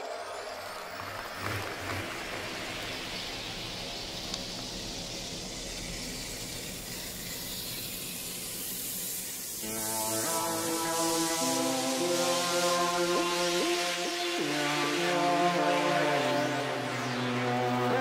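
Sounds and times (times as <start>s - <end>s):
electronic music: 0.0s - 18.0s.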